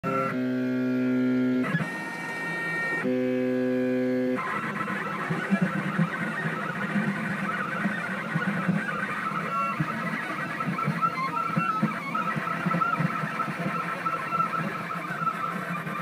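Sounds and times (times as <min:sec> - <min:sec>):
stepper motors whining: 0:00.1 - 0:16.0.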